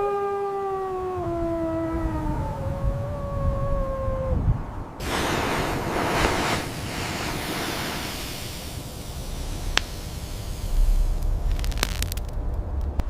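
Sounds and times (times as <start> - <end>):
wind gusting: 0.6 - 13.0.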